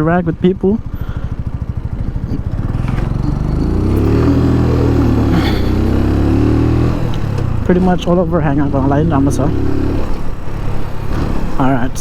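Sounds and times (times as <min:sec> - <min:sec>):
motorcycle engine pulling away: 0:00.8 - 0:11.7.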